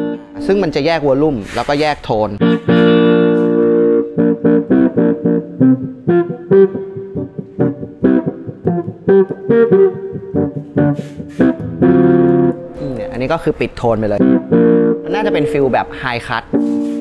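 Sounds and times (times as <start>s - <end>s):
electric guitar playing: 0.0s - 1.1s, 2.4s - 17.0s.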